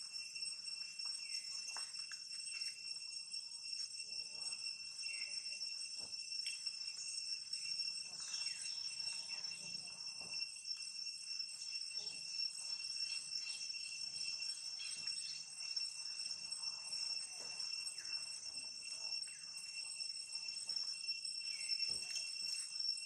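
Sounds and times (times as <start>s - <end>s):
insect chorus: 0.0s - 23.0s.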